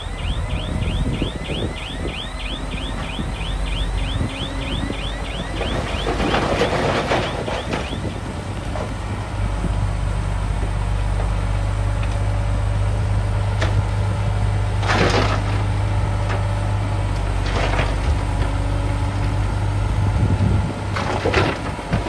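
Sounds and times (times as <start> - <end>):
heavy diesel engine humming: 0.0 - 21.9.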